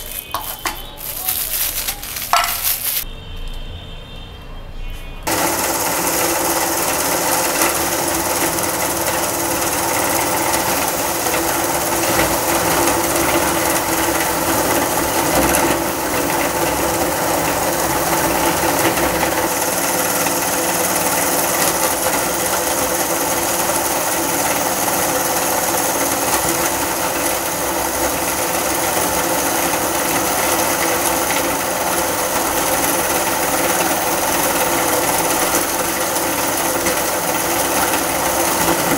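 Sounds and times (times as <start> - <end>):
meat grinder grinding: 0.0 - 3.0, 5.3 - 38.9.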